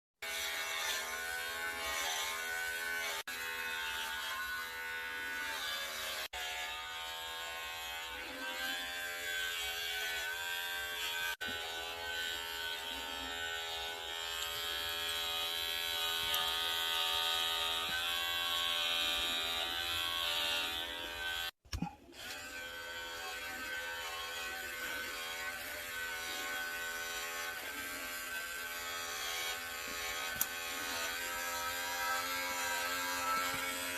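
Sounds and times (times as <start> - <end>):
electric hair clippers buzzing: 0.2 - 21.6, 22.2 - 33.9.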